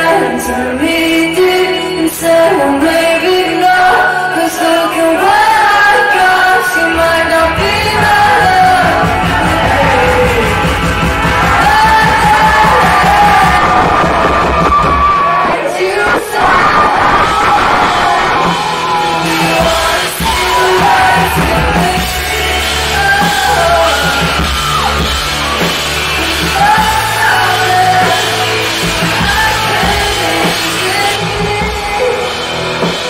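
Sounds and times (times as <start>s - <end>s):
woman singing: 0.0s - 13.8s, 18.9s - 25.0s, 26.1s - 33.0s
live band music: 0.0s - 33.0s.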